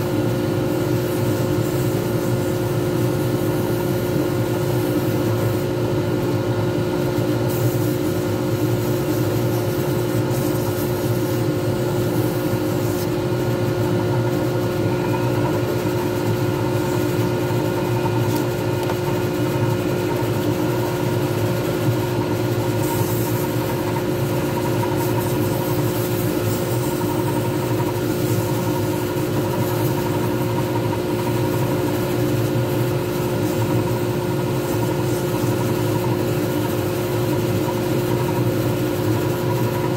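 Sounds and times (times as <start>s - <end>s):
lathe motor hum and whine: 0.0s - 39.9s
pad rubbing on spinning blank: 7.0s - 39.9s.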